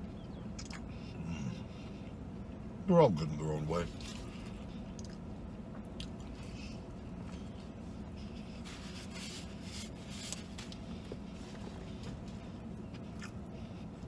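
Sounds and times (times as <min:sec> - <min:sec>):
man chewing food: 0:00.0 - 0:02.8, 0:03.9 - 0:14.0
car cabin hum: 0:00.0 - 0:14.0.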